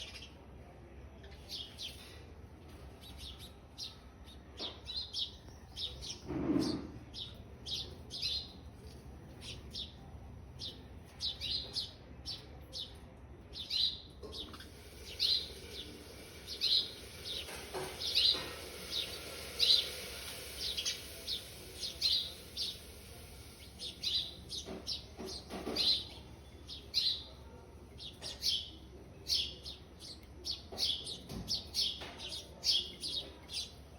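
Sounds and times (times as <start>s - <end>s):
baby birds chirping: 0.0s - 33.9s.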